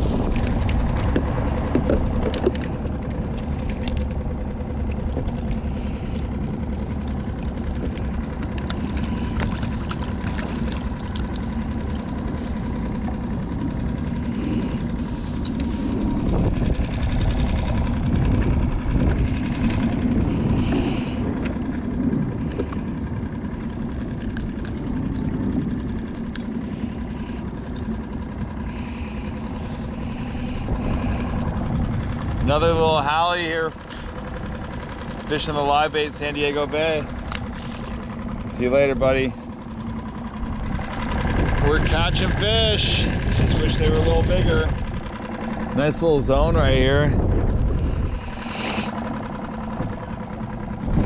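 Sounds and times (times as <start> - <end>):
outboard motor idling: 0.0 - 51.0.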